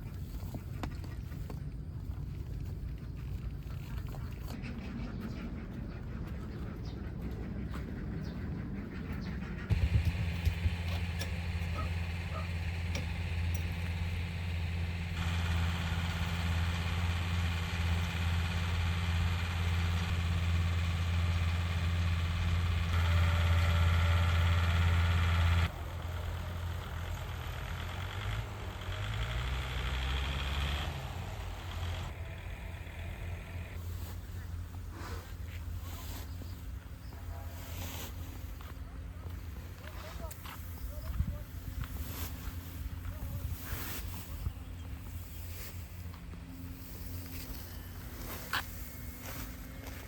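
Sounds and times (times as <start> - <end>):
vehicle engine droning: 4.5 - 50.0.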